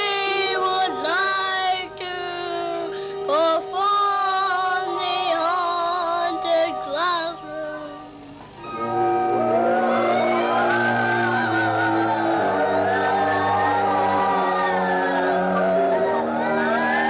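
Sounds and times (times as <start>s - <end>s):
children singing: 0.0s - 7.3s, 8.8s - 17.0s.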